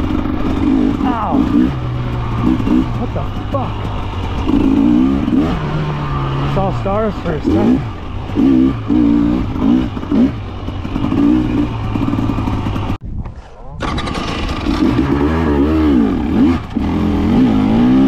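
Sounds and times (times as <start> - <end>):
motorcycle engine revving: 0.0 - 13.0, 13.8 - 18.0.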